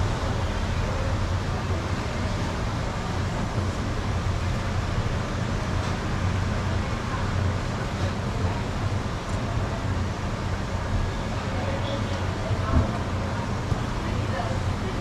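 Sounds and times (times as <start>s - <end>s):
background rushing noise: 0.0s - 15.0s.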